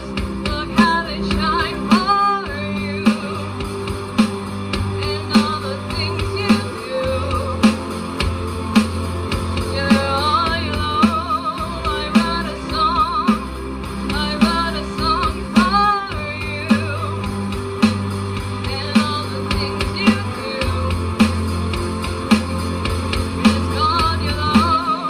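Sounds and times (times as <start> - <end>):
drum accents: 0.0 - 25.0
live rock band with singing: 0.0 - 25.0.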